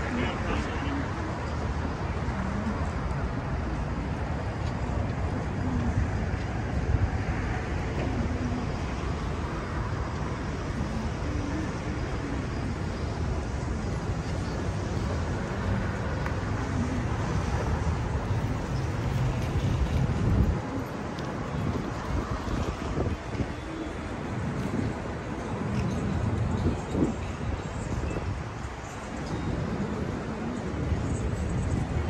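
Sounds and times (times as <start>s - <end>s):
city street traffic rumble: 0.0s - 32.0s.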